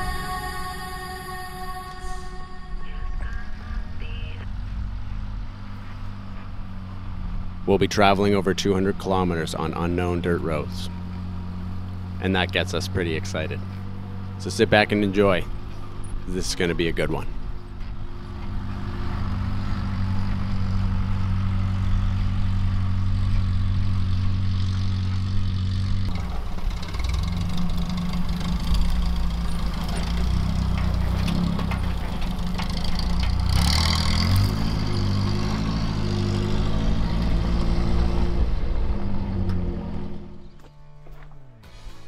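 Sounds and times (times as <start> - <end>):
pickup truck engine running: 3.2 - 42.0.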